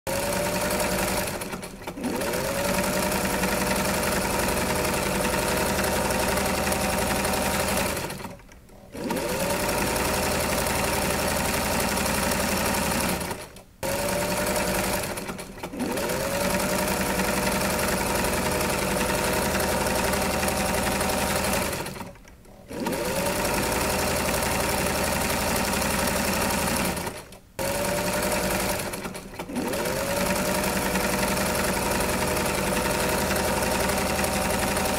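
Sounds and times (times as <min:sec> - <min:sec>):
electric sewing machine running: 0:00.1 - 0:34.9.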